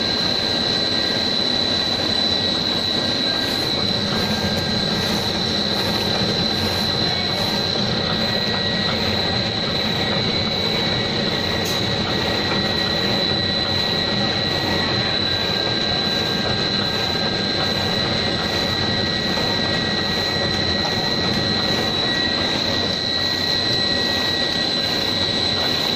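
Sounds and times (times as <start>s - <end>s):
factory machinery drone: 0.0s - 25.9s
high machine whine: 0.0s - 25.9s.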